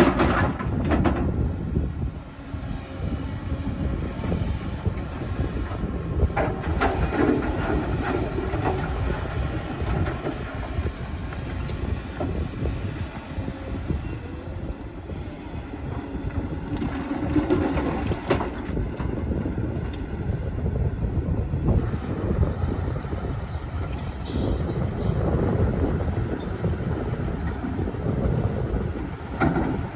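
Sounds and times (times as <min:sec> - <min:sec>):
excavator diesel engine under load: 0:00.0 - 0:29.9.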